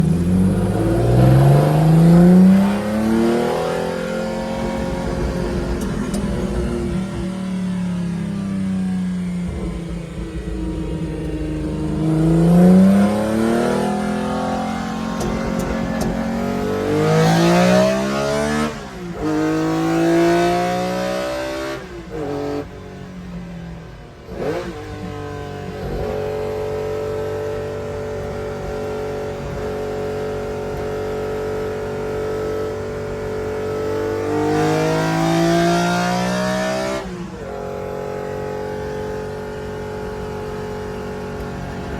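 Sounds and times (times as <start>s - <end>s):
race car engine accelerating: 0.0s - 41.9s.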